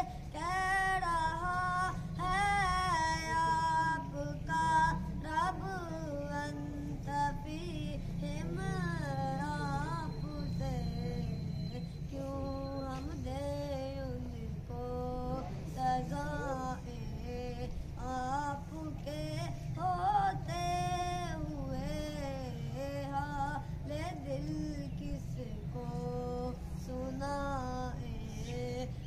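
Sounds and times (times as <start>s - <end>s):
boy singing unaccompanied: 0.0s - 29.0s.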